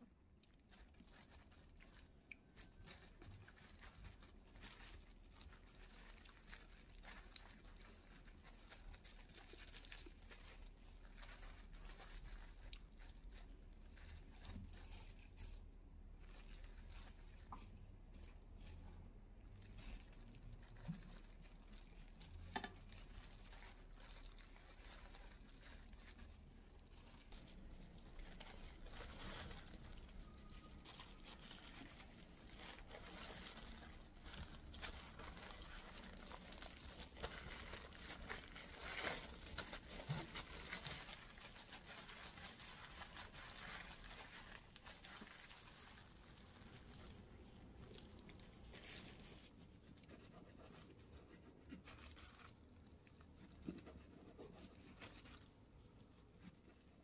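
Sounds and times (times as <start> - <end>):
crackling and crinkling: 0.0 - 57.0.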